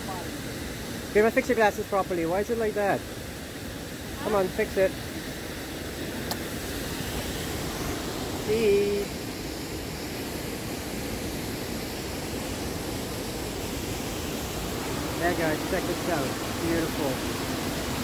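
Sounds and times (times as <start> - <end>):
water rushing over a dam: 0.0 - 18.0.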